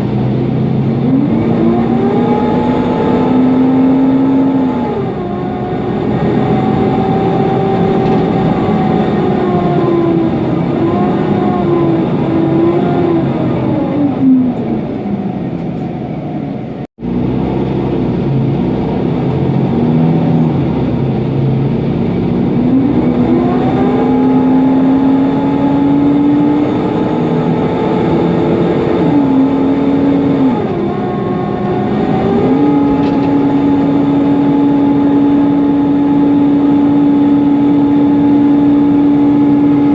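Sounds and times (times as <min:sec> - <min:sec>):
bus engine and fan whine: 0:00.0 - 0:39.9
road noise rumble: 0:00.0 - 0:39.9.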